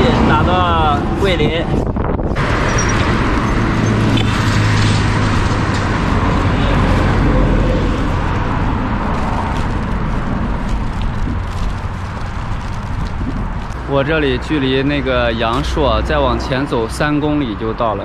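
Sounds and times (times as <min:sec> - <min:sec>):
vehicle engine hum: 0:00.0 - 0:17.8
roadside traffic noise: 0:00.0 - 0:18.0.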